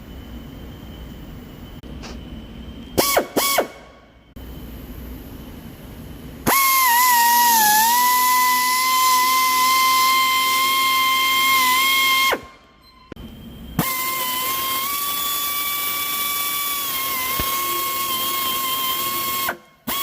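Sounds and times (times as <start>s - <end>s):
power tool high-pitched whine: 0.0s - 4.9s, 6.4s - 20.0s.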